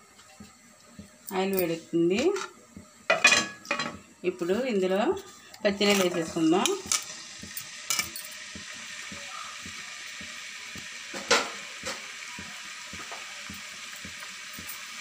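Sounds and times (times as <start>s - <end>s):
prawns sizzling in hot oil: 0.0s - 15.0s.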